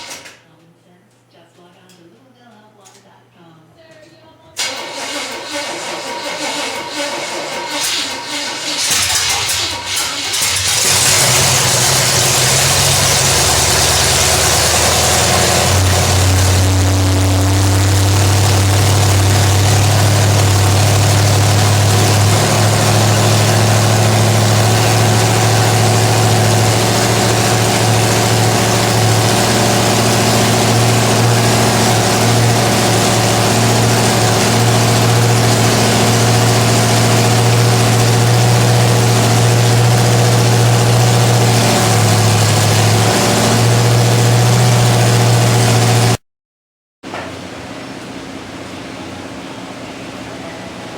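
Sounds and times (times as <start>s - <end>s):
loud car engine droning: 4.8s - 46.2s.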